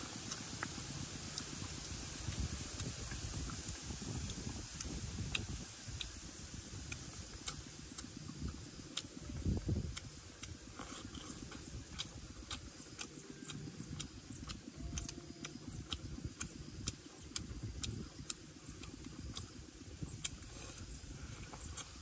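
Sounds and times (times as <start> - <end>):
low steady rumble: 0.0 - 22.0
lip-smacking chewing clicks: 0.2 - 22.0.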